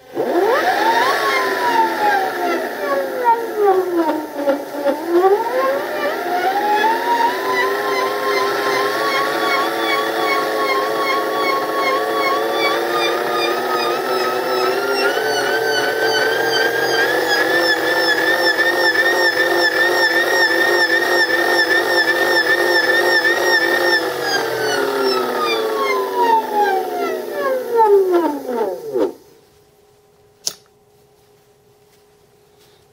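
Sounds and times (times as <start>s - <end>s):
electric motor whine: 0.0s - 29.3s.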